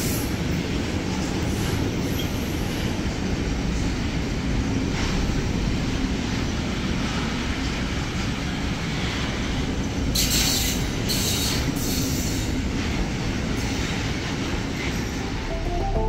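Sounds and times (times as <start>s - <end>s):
train wagons rumbling on rails: 0.0s - 15.2s.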